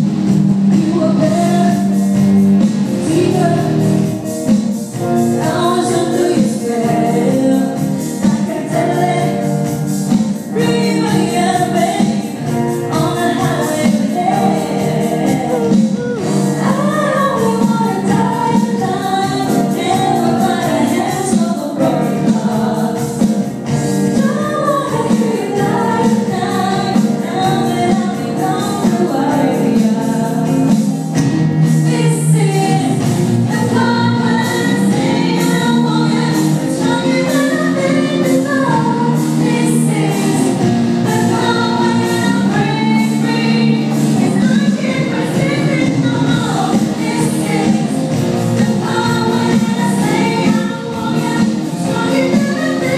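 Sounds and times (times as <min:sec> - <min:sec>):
group singing gospel music: 0:00.0 - 0:52.9
instrumental backing: 0:00.0 - 0:52.9.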